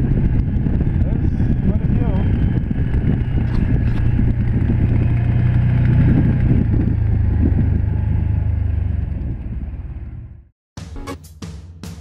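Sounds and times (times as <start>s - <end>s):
vehicle engine running steadily: 0.0s - 10.5s.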